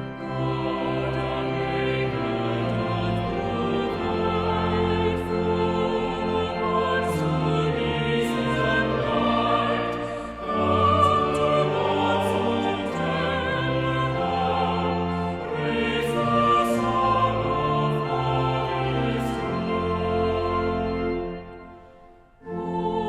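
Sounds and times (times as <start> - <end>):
choir singing: 0.0 - 23.0
instrumental accompaniment: 0.0 - 23.0.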